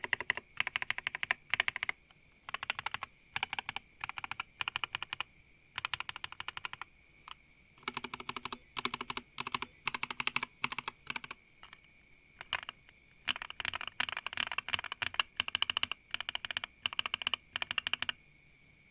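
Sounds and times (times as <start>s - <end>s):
typing on mechanical keyboard: 0.0s - 6.9s, 7.8s - 18.2s.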